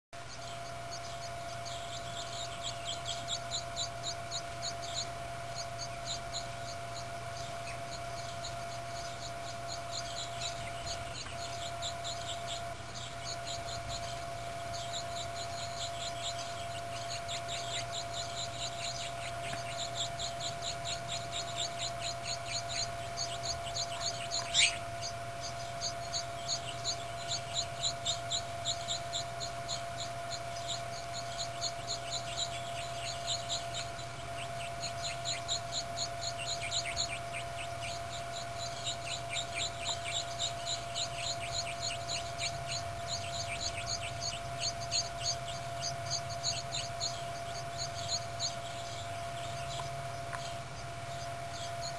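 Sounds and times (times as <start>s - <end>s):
nestling birds cheeping: 0.2s - 51.9s
steady hum: 0.2s - 51.9s.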